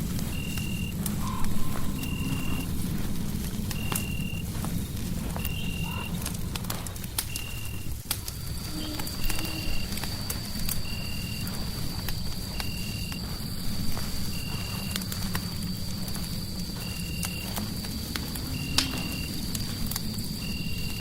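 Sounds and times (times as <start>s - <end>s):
fireplace crackling and popping: 0.0s - 21.0s
steady low rumble: 0.0s - 21.0s.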